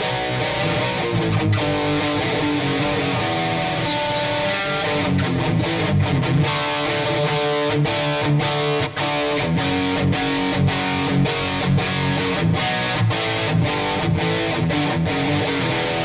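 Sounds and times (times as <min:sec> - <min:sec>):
distorted electric guitar: 0:00.0 - 0:16.0.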